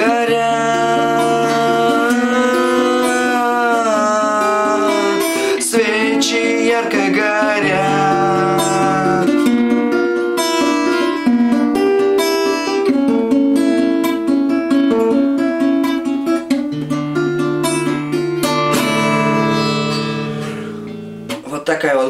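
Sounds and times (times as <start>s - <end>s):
fingerpicked guitar: 0.0s - 22.0s.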